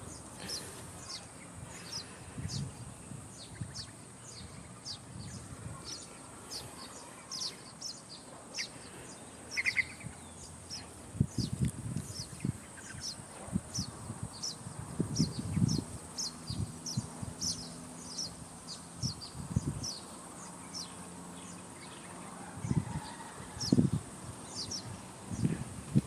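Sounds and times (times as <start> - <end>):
bird chirping: 0.0 - 25.6.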